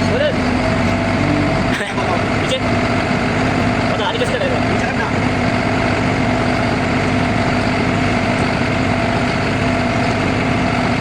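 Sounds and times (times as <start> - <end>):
heavy machinery humming: 0.0 - 11.0.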